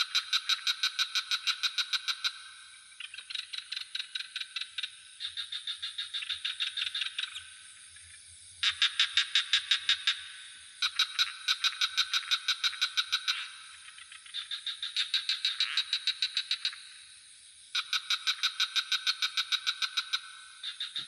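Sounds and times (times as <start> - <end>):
frogs calling in pulsed trills: 0.0 - 21.0
high insect drone: 0.0 - 21.0.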